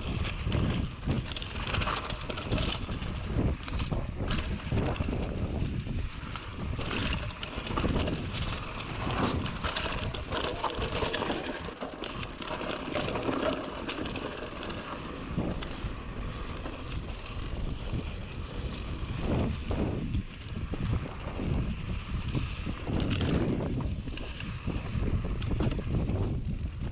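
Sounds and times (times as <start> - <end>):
bike clattering over rough ground: 0.0 - 26.9
wind rushing over microphone: 0.0 - 26.9.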